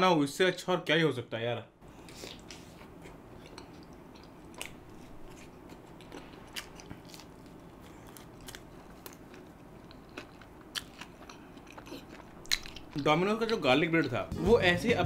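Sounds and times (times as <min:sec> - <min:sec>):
wet chewing mouth sounds: 0:02.1 - 0:14.2.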